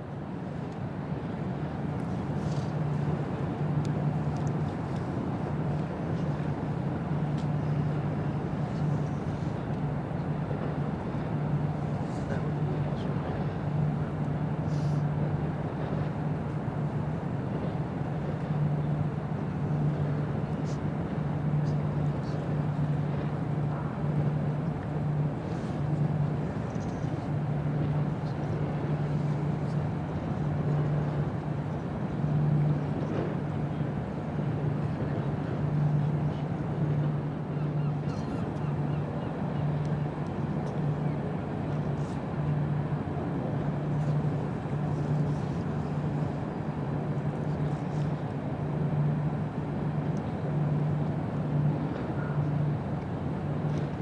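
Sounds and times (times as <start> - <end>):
ship engine drone: 0.0 - 54.0.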